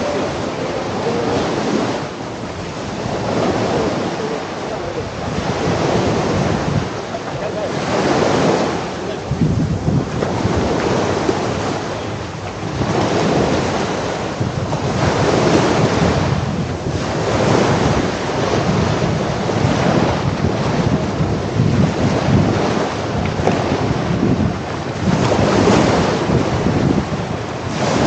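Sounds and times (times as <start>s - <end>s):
sea waves washing onto beach: 0.0s - 28.0s
wind buffeting microphone: 0.0s - 28.0s.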